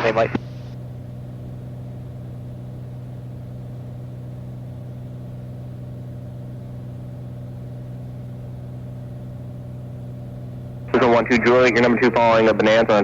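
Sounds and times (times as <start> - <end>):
propeller engine droning: 0.0 - 13.0.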